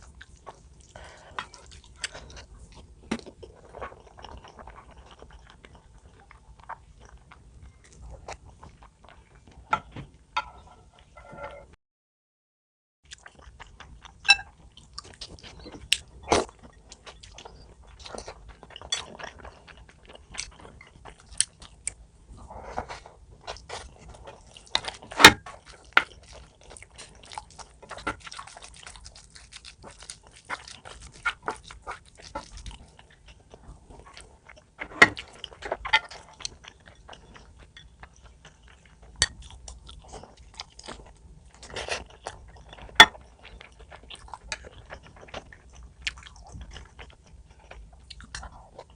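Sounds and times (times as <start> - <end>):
person chewing and crunching: 0.0 - 9.6, 13.1 - 22.0, 22.7 - 48.9.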